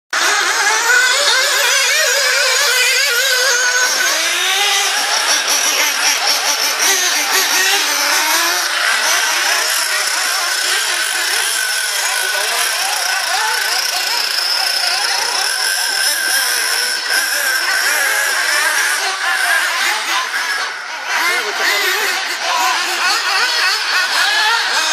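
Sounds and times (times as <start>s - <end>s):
radio-controlled buggy engines revving: 0.1s - 24.9s.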